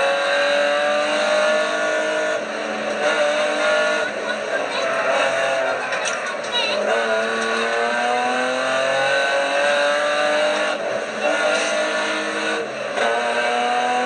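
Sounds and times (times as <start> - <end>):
car engine pulling hard: 0.0 - 14.0.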